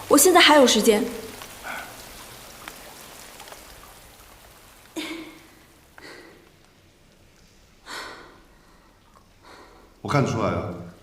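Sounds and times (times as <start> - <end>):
rain-like hiss: 0.0 - 11.0.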